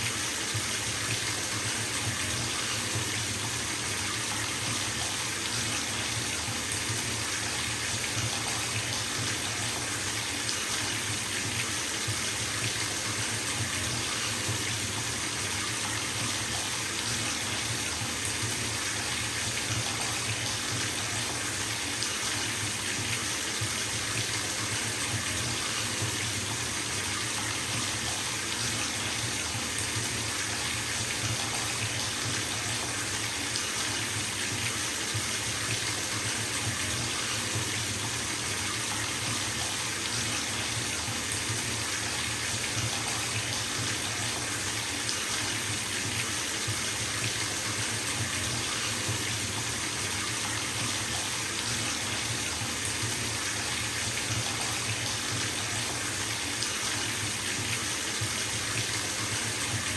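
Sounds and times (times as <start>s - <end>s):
water running into bathtub: 0.0s - 59.9s.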